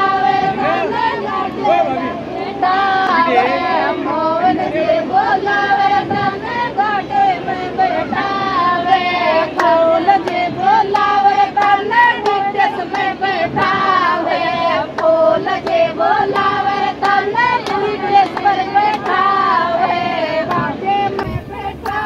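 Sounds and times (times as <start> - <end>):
women singing in chorus: 0.0 - 22.0.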